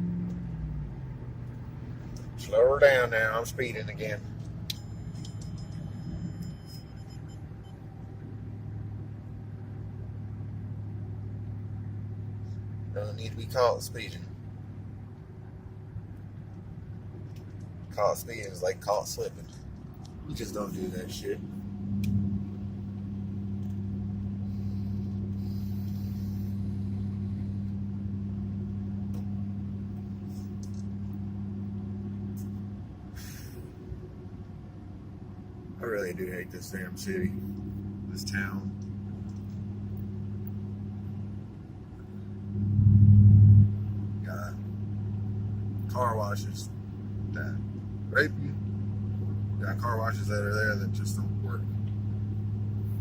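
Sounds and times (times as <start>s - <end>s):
truck engine and road noise: 0.0s - 53.0s.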